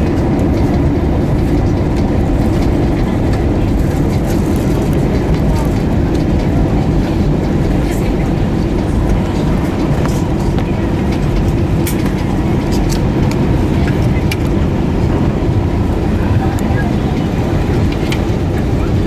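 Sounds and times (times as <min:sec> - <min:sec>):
airplane cabin low rumble: 0:00.0 - 0:19.0.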